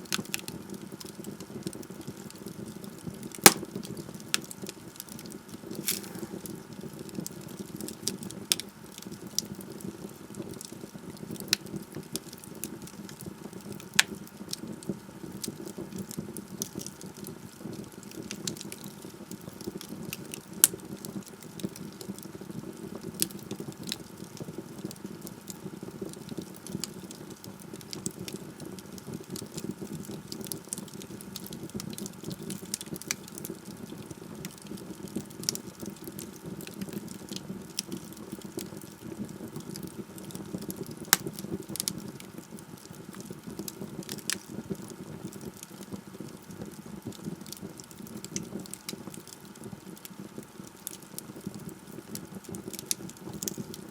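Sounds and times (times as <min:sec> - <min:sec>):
crackles and pops of burning logs: 0:00.0 - 0:53.9
wood fire burning: 0:00.0 - 0:53.9.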